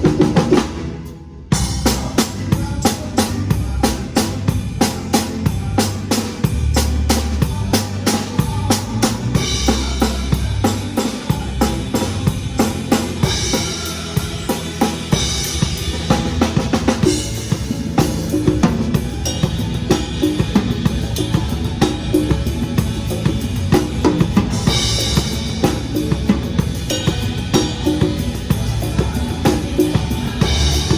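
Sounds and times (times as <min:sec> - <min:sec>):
backing track bass line: 0:00.0 - 0:01.0, 0:01.6 - 0:30.9
drum kit beat: 0:00.0 - 0:30.9.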